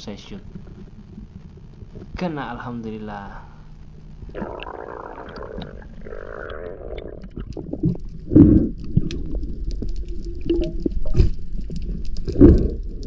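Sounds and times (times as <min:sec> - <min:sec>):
underwater low rumble: 0:00.0 - 0:13.0.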